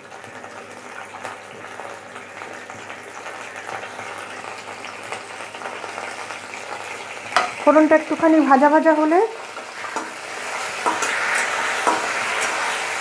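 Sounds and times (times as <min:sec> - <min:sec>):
seeds sizzling in hot oil: 0:00.0 - 0:13.0.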